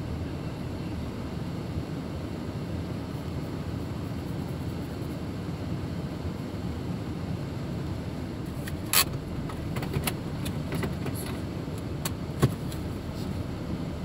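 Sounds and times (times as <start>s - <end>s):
car cabin low rumble: 0.0s - 5.6s, 6.3s - 14.0s.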